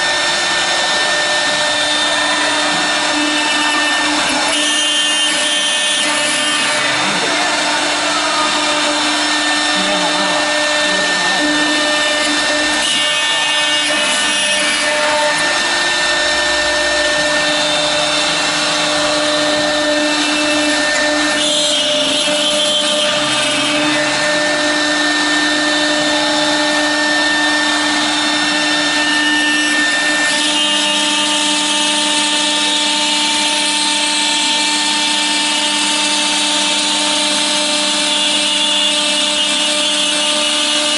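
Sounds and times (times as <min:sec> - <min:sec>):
cutter hissing through plastic: 0:00.0 - 0:40.9
router spindle whine: 0:00.0 - 0:40.9.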